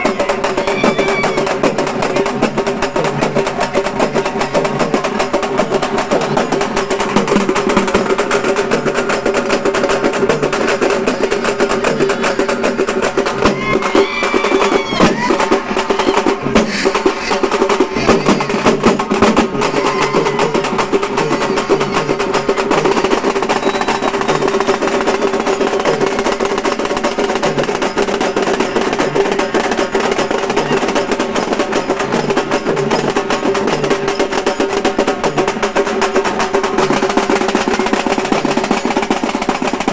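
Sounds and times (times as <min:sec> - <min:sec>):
frame drums beaten fast: 0:00.0 - 0:39.9.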